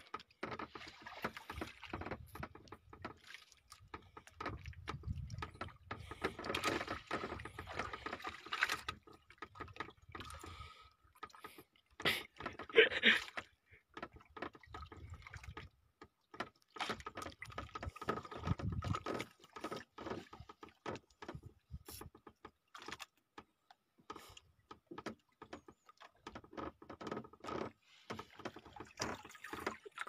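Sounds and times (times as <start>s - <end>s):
knocks and handling noises on boat: 0.0s - 30.0s.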